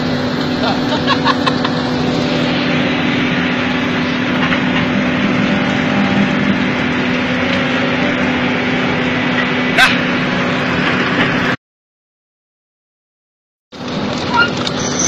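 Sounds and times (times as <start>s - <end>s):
excavator engine running: 0.0s - 11.6s, 13.7s - 15.0s.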